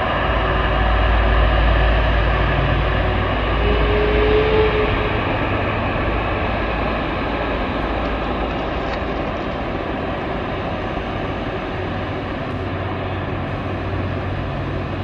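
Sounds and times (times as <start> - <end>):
vehicle rumble with hiss: 0.0 - 15.0.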